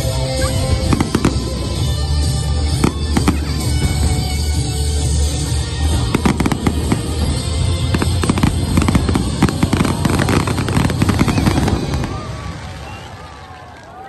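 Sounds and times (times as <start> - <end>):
fireworks crackling and popping: 0.0 - 14.0.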